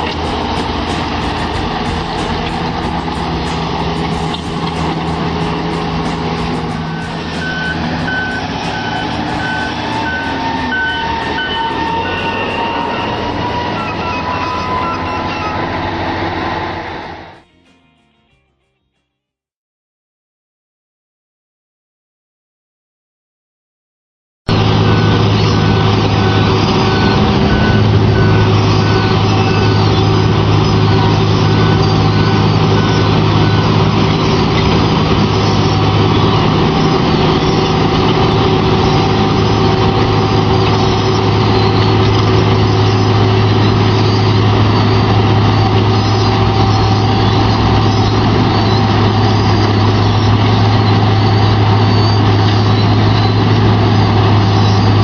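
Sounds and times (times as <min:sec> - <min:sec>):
reversing beeper: 0:00.0 - 0:17.4, 0:24.5 - 0:55.0
diesel machinery droning: 0:00.0 - 0:17.6, 0:24.5 - 0:55.0.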